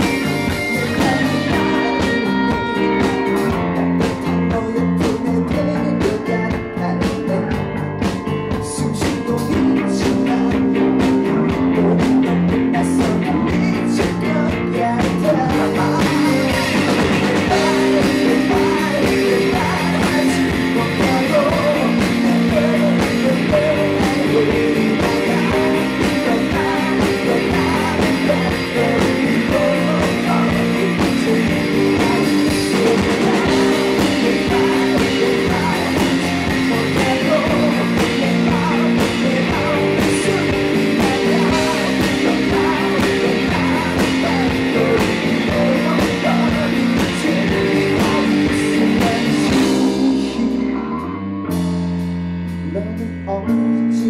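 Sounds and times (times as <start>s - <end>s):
man singing: 0.0s - 51.2s, 52.6s - 54.0s
drum kit: 0.0s - 54.0s
electric guitar: 0.0s - 54.0s.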